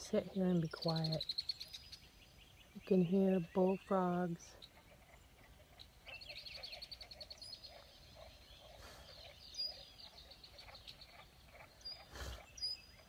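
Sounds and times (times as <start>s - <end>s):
bird chirps: 0.0s - 13.0s
frogs croaking: 0.0s - 13.0s.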